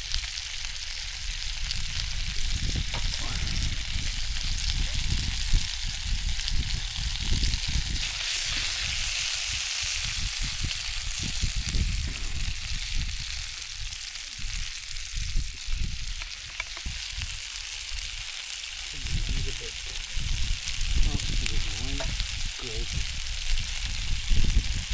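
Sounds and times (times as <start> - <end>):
food sizzling in oil: 0.0 - 24.9
gusty low rumble: 1.0 - 17.4, 19.0 - 24.9.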